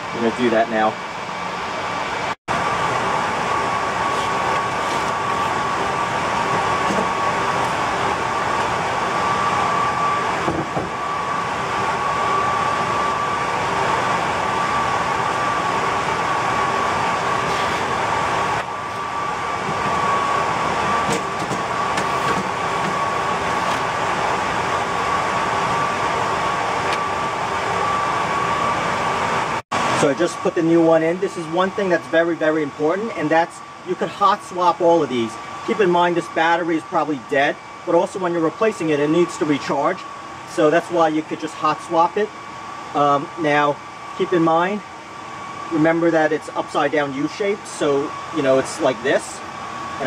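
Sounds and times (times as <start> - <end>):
cooling fans whirring: 0.0 - 50.0
high-pitched whine: 0.0 - 50.0.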